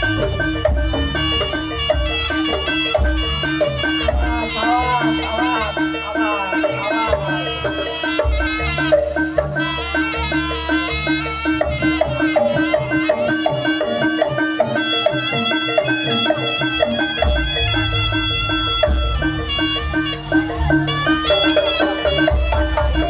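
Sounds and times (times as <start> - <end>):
drums and gongs beating: 0.0 - 23.0
reed shawm melody: 0.0 - 23.0.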